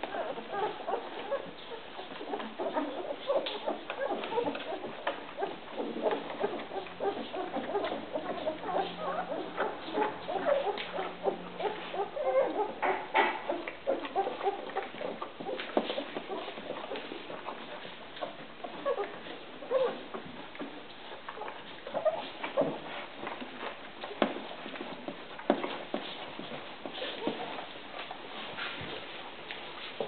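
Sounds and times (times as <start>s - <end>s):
puppies squeaking and whimpering: 0.0s - 29.6s.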